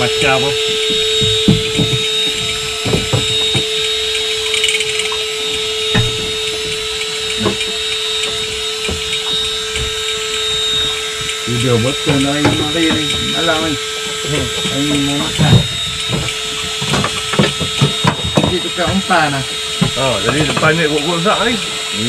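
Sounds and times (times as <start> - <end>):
motor humming with high whine: 0.0 - 22.0.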